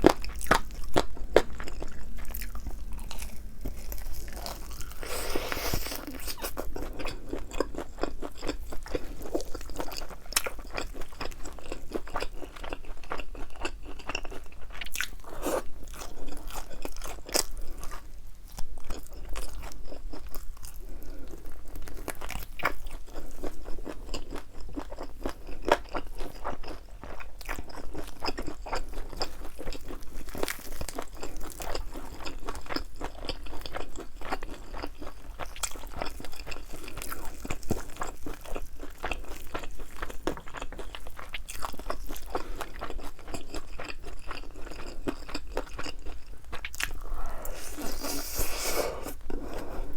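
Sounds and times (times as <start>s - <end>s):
crunchy chewing of fried chicken: 0.0s - 49.9s.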